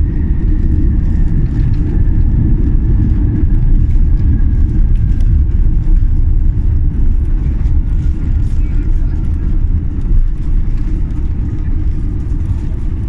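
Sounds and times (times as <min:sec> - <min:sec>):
airplane landing rumble: 0:00.0 - 0:13.0
high engine whine: 0:00.0 - 0:13.0.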